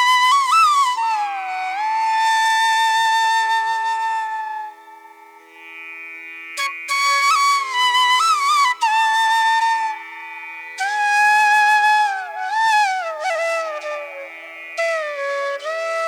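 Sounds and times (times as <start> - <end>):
flute melody: 0.0 - 5.0, 6.6 - 10.2, 10.8 - 16.0.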